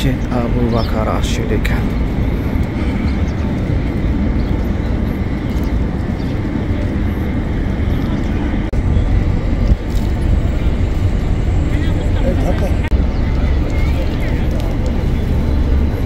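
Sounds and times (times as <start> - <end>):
city ambience rumble: 0.0 - 16.0.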